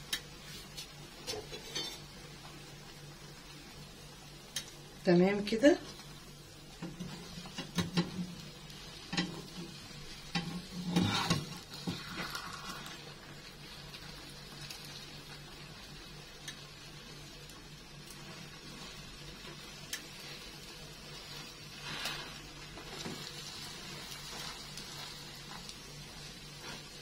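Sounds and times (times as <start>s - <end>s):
eggs sizzling in a pan: 0.0s - 27.0s.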